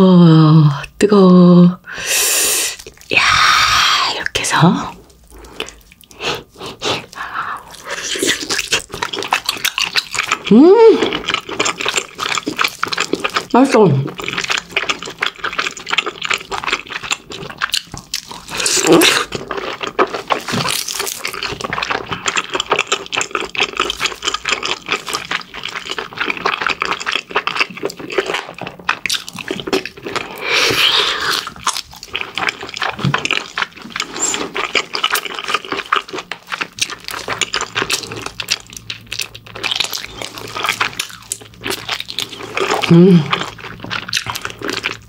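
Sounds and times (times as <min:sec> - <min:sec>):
chewing with mouth smacks: 0:02.8 - 0:03.2, 0:04.2 - 0:45.0.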